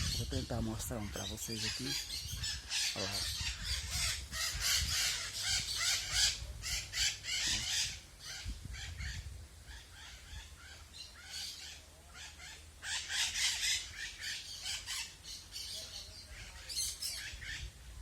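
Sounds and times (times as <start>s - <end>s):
parrots screeching: 1.0s - 17.6s.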